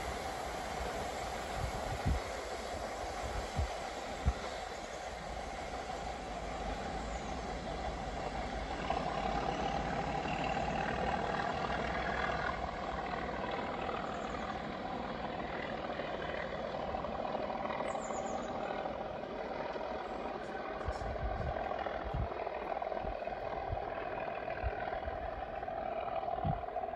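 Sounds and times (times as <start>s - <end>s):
distant diesel locomotive rumble: 0.0s - 26.9s.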